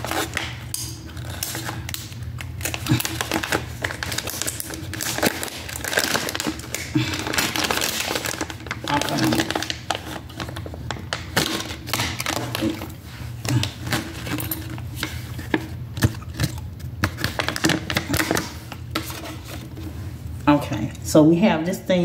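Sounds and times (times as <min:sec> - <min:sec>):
plastic packaging crinkling: 0:00.0 - 0:19.8.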